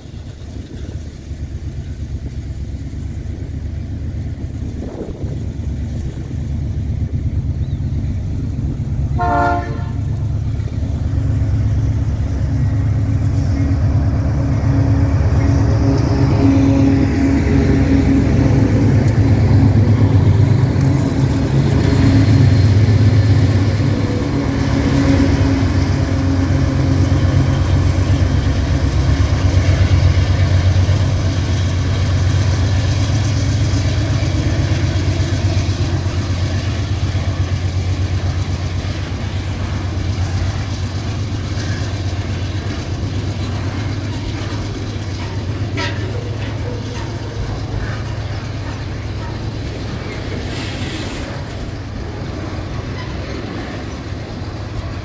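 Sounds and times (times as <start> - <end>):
locomotive diesel engine drone: 0.0 - 55.0
freight wagons rolling on rails: 9.1 - 55.0.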